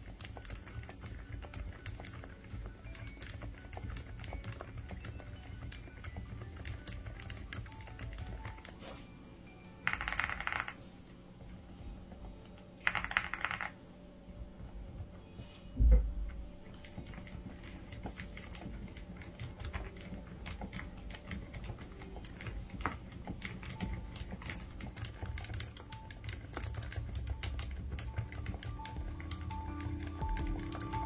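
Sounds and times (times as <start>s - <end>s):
mechanical keyboard typing: 0.0s - 8.9s, 9.8s - 10.8s, 12.1s - 13.8s, 16.2s - 31.0s.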